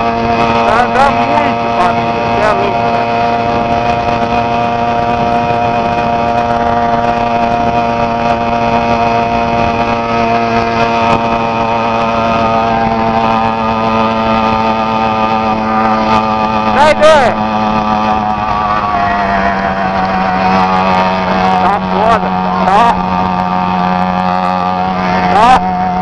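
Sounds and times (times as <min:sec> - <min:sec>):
two-stroke bicycle engine running: 0:00.0 - 0:26.0.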